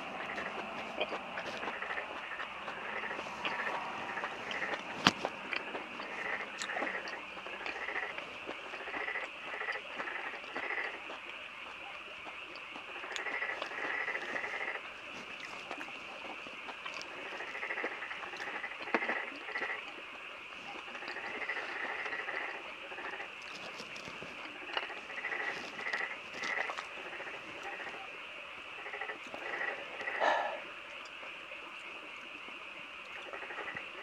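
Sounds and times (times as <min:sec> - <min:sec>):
frog chorus calling: 0:00.0 - 0:34.0.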